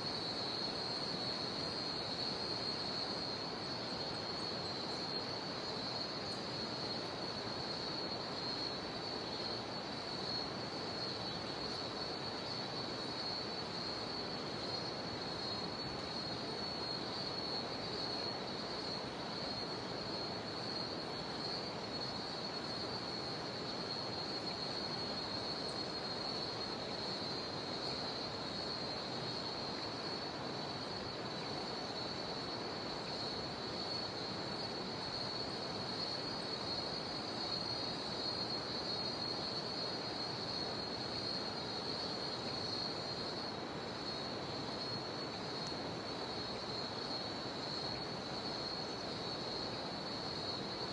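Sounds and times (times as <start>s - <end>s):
cicadas buzzing: 0.0s - 50.9s.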